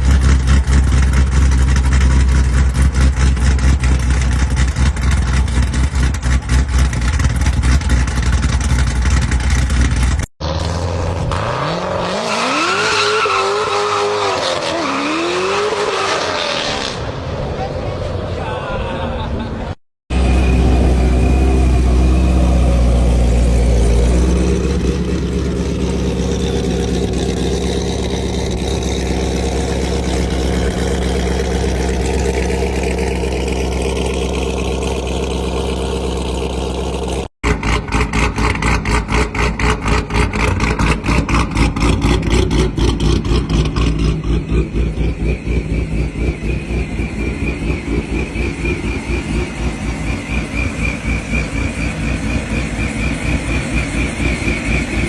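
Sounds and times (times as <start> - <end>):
car engine running: 0.0 - 11.3, 20.1 - 55.0.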